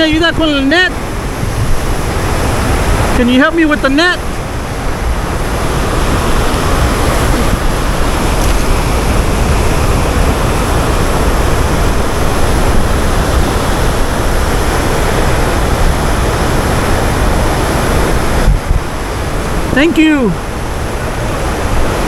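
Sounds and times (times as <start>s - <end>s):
whitewater rushing: 0.0s - 22.0s.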